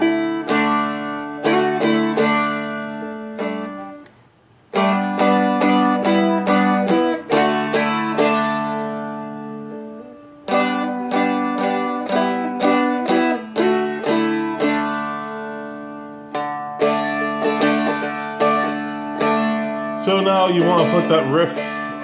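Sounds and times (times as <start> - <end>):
guitar chords ringing out: 0.0 - 4.1, 4.7 - 22.0
guitar picking and strumming: 0.0 - 22.0.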